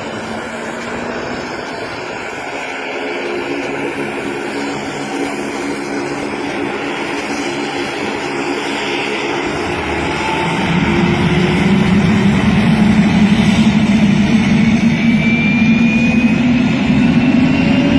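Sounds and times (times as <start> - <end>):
jet engine whine and roar: 0.0 - 17.9
low hum: 0.0 - 17.9.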